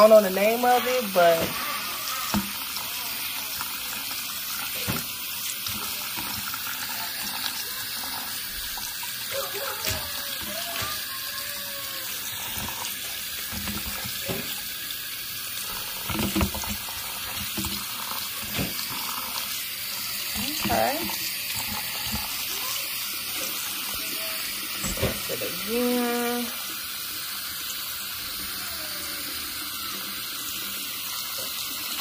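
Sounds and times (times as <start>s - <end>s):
tap water running: 0.0s - 32.0s.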